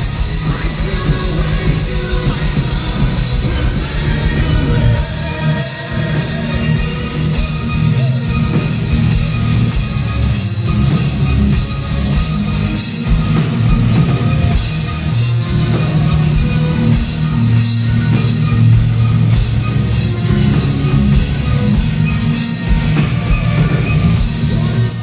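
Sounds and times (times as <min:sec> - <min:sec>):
distorted guitars: 0:00.0 - 0:25.0
drum kit: 0:00.0 - 0:25.0.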